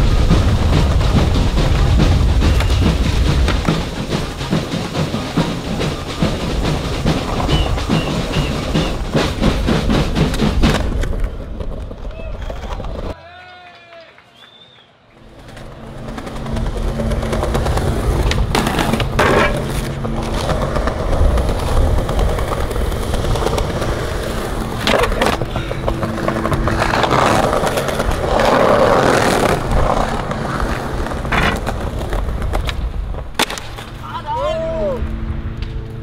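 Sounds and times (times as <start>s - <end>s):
skateboard clacks: 0.0s - 13.2s, 15.2s - 34.0s
skateboard wheels rolling on concrete: 0.0s - 13.4s, 14.1s - 36.0s.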